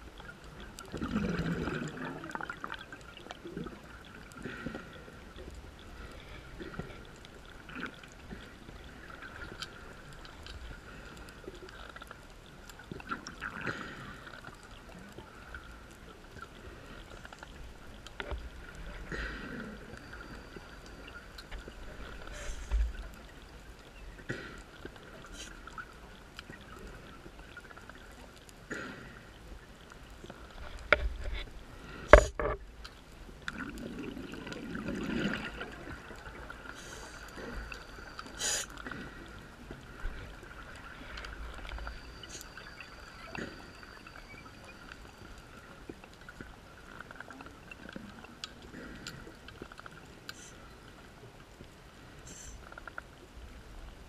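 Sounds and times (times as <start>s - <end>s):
exhaled bubbles gurgling underwater: 0.0s - 31.0s, 31.6s - 54.0s
low steady hiss: 0.0s - 54.0s.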